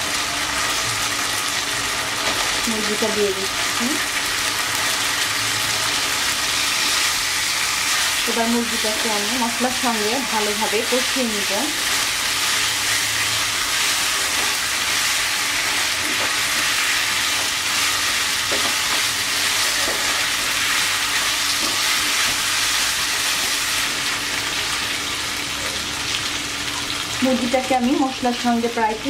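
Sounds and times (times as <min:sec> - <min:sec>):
chicken sizzling in a frying pan: 0:00.0 - 0:29.0.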